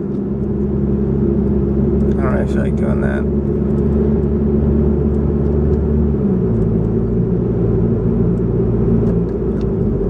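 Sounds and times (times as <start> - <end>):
car engine drone: 0.0 - 10.0
road noise inside car: 0.0 - 10.0.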